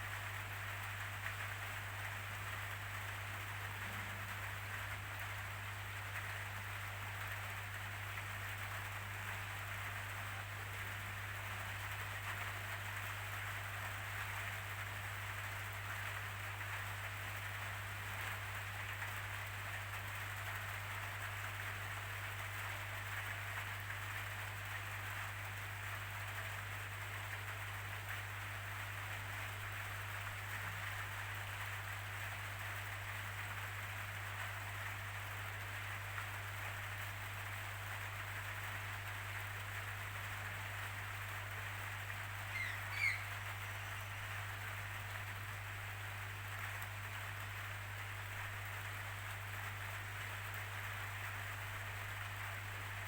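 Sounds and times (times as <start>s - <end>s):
steady rainfall hiss: 0.0s - 53.0s.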